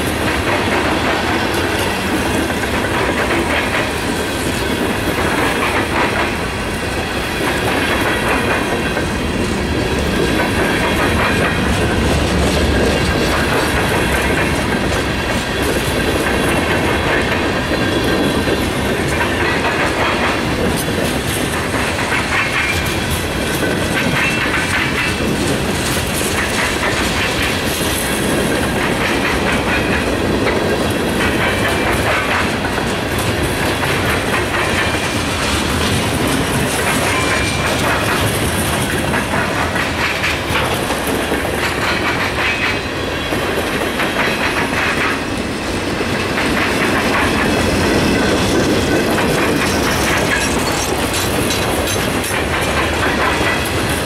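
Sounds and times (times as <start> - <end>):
freight train rumbling past: 0.0 - 54.0
wheels clacking over rail joints: 0.0 - 54.0.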